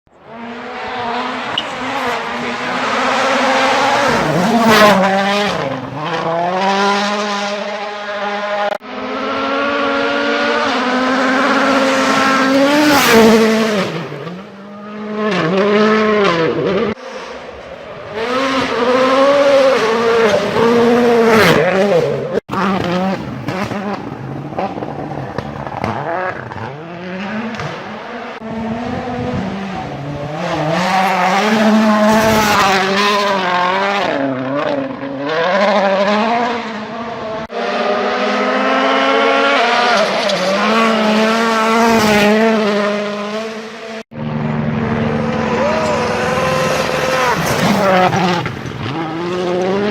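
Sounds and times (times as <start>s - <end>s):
rally car engines revving: 0.1s - 49.9s.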